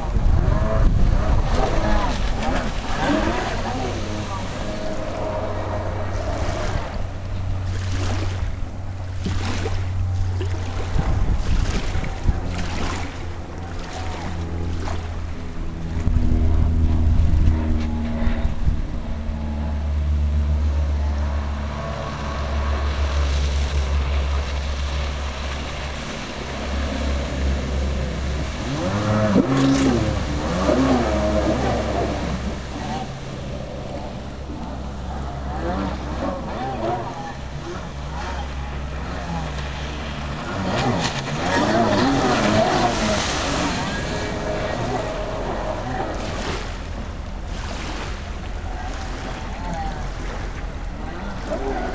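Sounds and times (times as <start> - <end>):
jet ski engine revving: 0.0 - 51.9
rushing water noise: 0.0 - 51.9.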